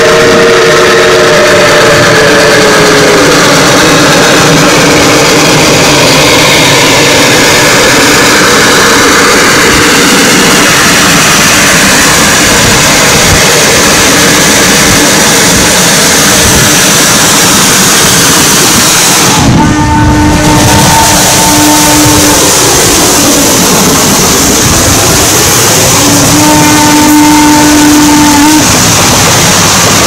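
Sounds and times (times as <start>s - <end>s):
steam locomotive rushing: 0.0s - 30.0s.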